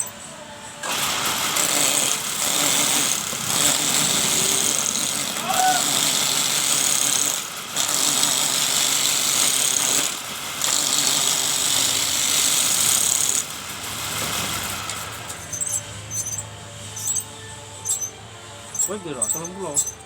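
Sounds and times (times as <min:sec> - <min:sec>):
cutting tool hissing on lathe: 0:00.8 - 0:20.0.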